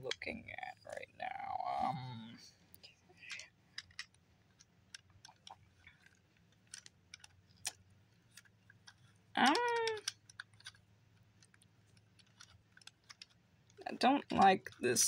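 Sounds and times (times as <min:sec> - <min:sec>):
plastic clicks and rattles: 0:02.7 - 0:15.0.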